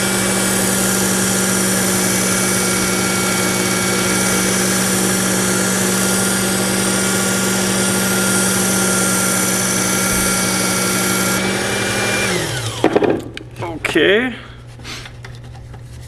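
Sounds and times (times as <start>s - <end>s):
belt sharpener motor whining: 0.0s - 13.0s.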